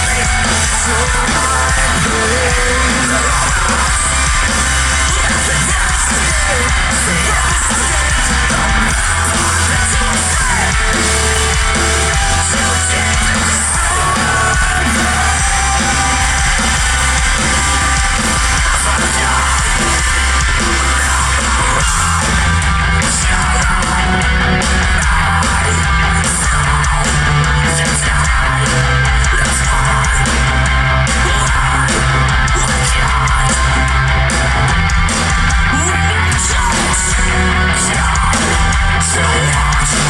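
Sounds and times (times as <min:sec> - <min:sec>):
bass: 0:00.0 - 0:40.0
distorted electric guitars: 0:00.0 - 0:40.0
drums: 0:00.0 - 0:40.0
yelled vocals: 0:00.0 - 0:40.0.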